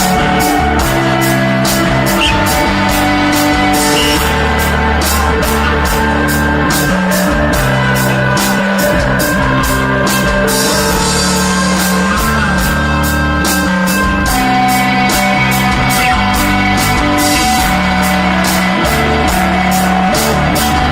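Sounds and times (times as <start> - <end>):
bass guitar notes: 0.0 - 20.9
drums: 0.0 - 20.9
electric guitar: 0.0 - 20.9.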